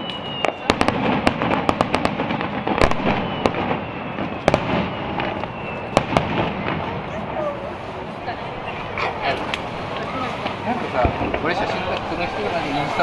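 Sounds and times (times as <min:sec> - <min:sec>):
fireworks bursting with bangs: 0:00.0 - 0:13.0
fireworks crackling pops: 0:00.0 - 0:13.0.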